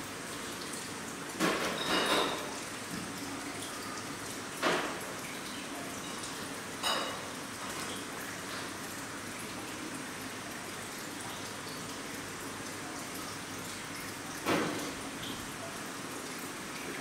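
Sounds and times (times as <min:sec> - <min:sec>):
trickle of running water: 0:00.0 - 0:17.0.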